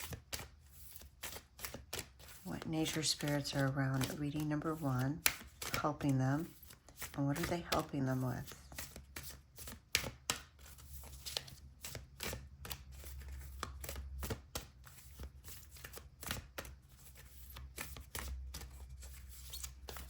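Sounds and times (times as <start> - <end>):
cards being shuffled: 0.0 - 20.0.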